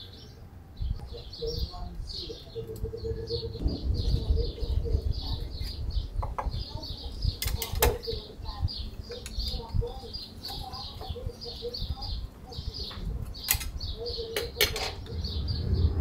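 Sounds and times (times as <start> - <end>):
low uneven rumble: 0.0 - 16.0
small birds chirping: 0.0 - 16.0.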